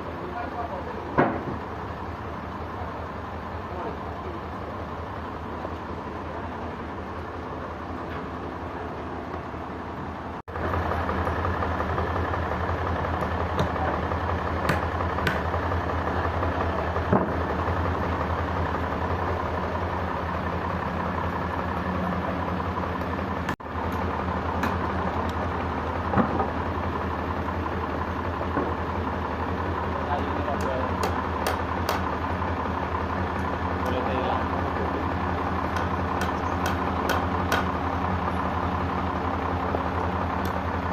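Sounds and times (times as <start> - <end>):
sawmill machinery engine running: 0.0 - 40.9.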